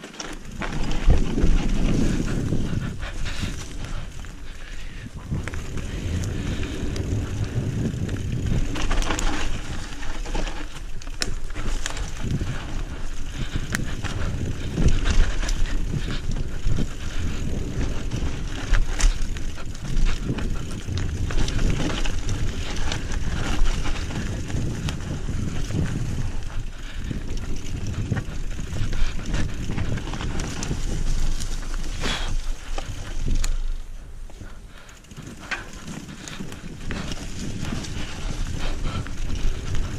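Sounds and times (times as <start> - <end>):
bike tyres rumbling over trail: 0.0 - 39.9.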